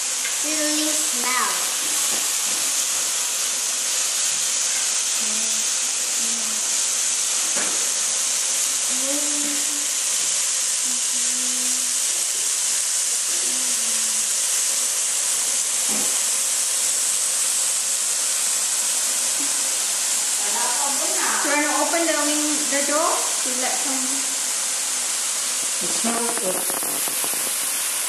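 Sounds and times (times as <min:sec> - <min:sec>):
meat sizzling on grill pan: 0:00.0 - 0:28.0.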